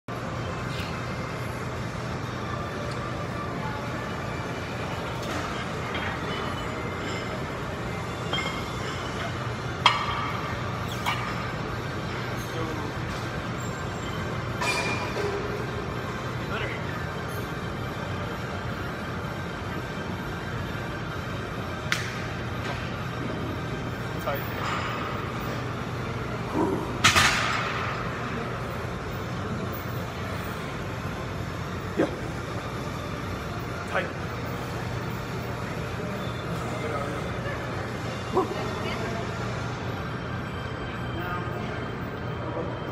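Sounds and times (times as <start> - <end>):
low hum of gym: 0.0 - 42.9
weight room noise: 0.1 - 42.9.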